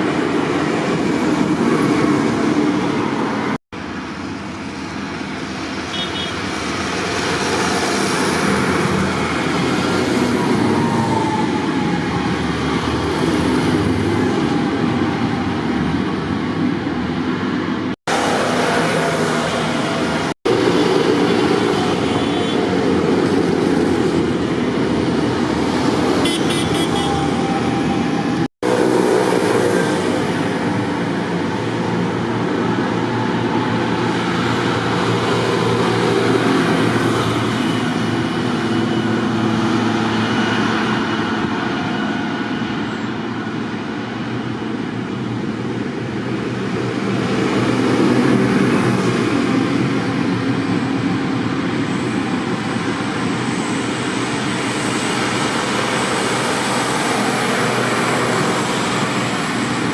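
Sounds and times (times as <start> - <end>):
road noise: 0.0 - 59.9
tractor engines running: 0.0 - 59.9.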